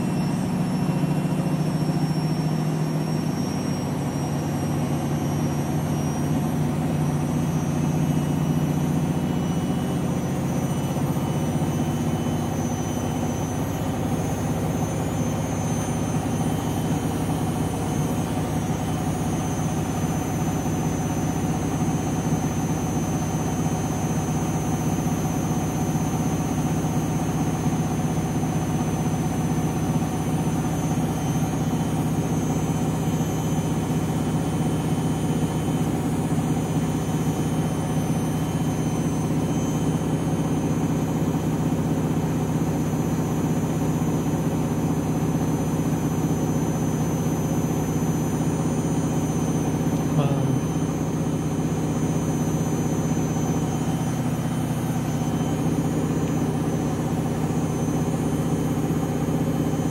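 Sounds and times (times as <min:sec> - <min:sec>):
motor whine: 0:00.0 - 0:59.9
washing machine spin hum: 0:00.0 - 0:59.9.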